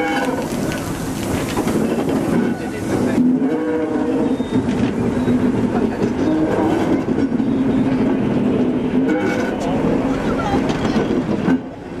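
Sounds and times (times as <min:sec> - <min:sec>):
diesel locomotive droning hum: 0:00.0 - 0:12.0
wheels rumbling on track: 0:00.0 - 0:12.0.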